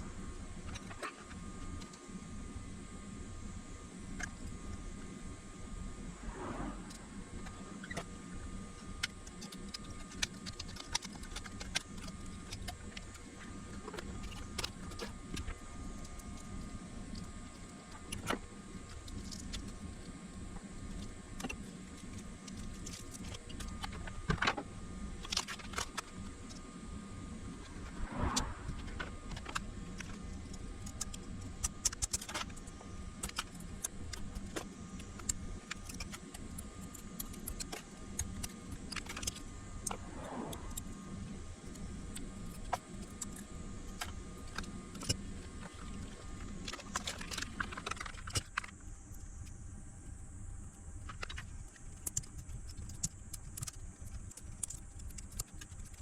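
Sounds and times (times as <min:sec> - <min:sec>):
low hum: 0:00.0 - 0:50.3.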